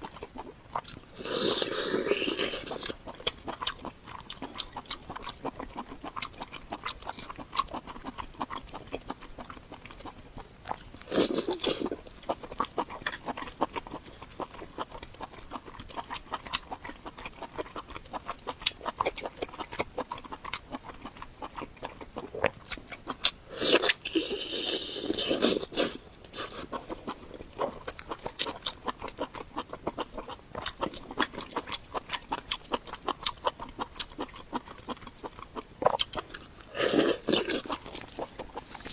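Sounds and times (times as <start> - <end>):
chewing and biting: 0.0 - 38.9.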